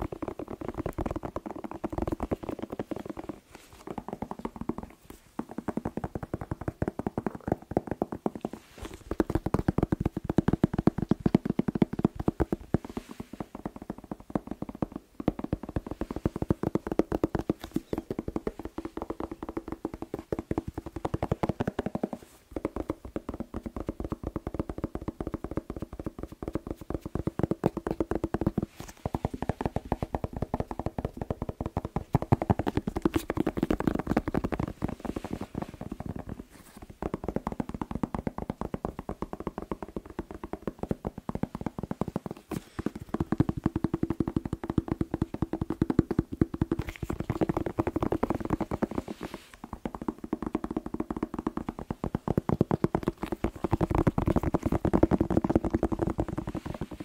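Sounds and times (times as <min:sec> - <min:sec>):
fingertips tapping on bell pepper: 0:00.0 - 0:57.0.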